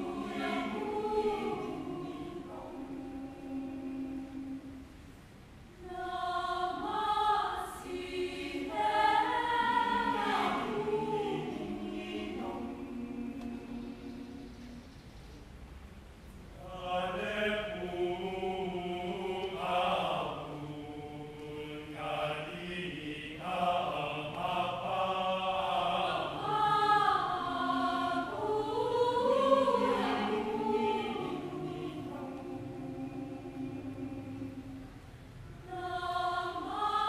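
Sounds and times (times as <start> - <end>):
mixed choir singing: 0.0 - 5.0, 5.8 - 15.0, 16.6 - 37.0.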